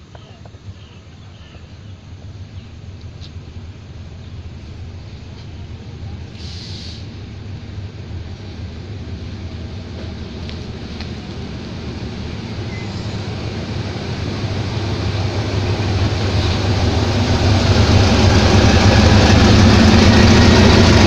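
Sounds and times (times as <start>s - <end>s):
diesel locomotive engine humming: 0.0s - 21.0s.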